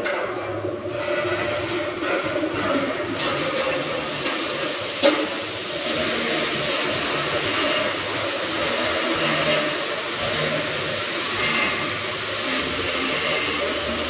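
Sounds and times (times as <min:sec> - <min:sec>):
arc welding hiss: 0:01.7 - 0:14.0.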